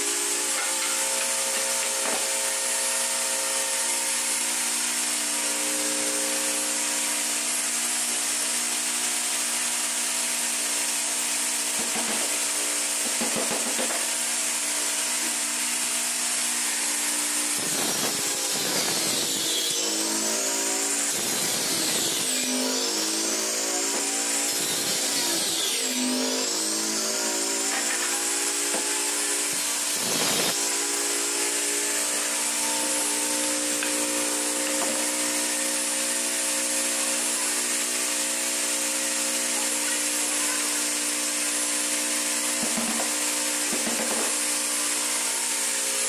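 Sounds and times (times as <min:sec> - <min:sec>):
power tool motor whine: 0:00.0 - 0:46.0.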